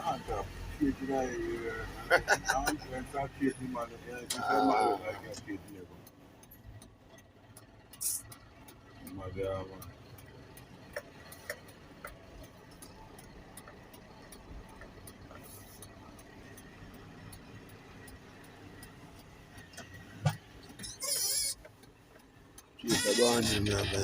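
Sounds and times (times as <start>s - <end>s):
light regular ticking: 0.2s - 24.0s.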